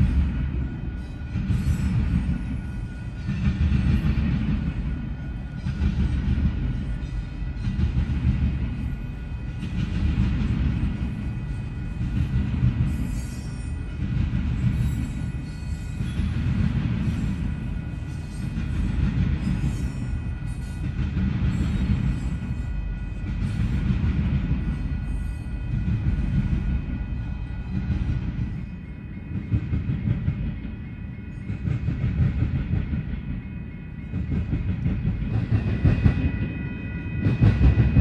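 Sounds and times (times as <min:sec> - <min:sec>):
crossing warning bells ringing: 0:00.0 - 0:38.0
train wheels rumbling on rail: 0:00.0 - 0:38.0.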